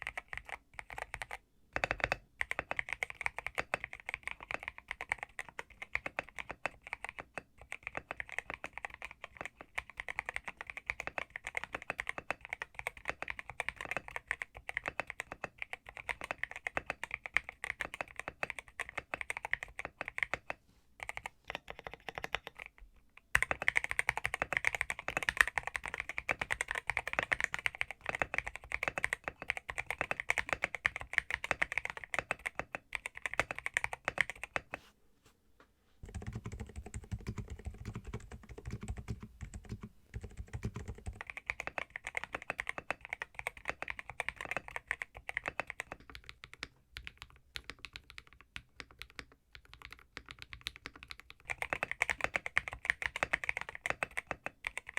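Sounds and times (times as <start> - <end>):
mechanical keyboard typing: 0.0 - 34.8, 36.0 - 54.9.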